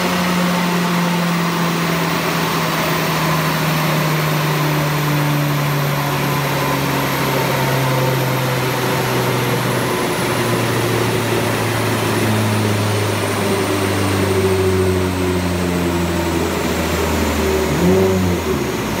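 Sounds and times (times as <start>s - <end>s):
turbocharged car engine on dyno: 0.0s - 19.0s.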